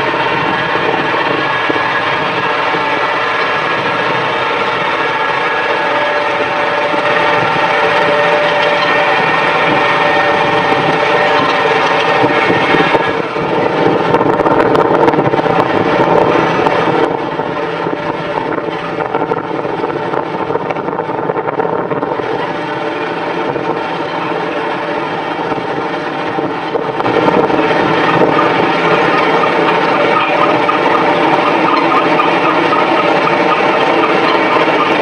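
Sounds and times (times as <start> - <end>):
machine engine running: 0.0 - 35.0.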